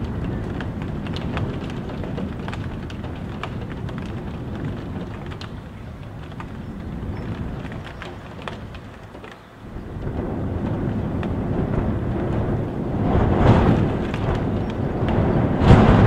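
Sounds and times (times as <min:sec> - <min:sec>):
gusting wind: 0:00.0 - 0:16.0
heavy rain: 0:00.0 - 0:16.0
raindrops tapping: 0:00.0 - 0:16.0.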